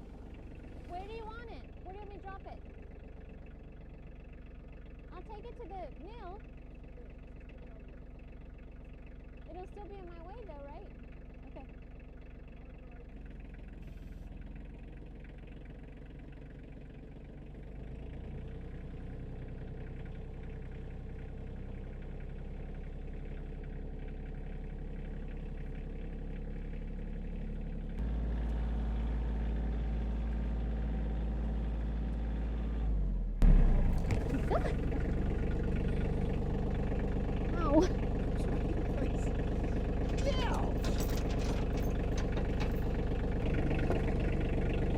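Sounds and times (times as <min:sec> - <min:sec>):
tractor engine straining: 0:00.0 - 0:32.8, 0:33.4 - 0:44.9.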